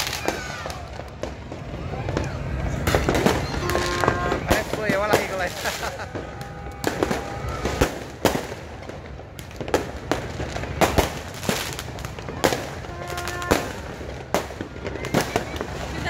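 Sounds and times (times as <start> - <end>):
distant fireworks popping: 0.0 - 16.0
fireworks bangs and cracks: 0.0 - 16.0.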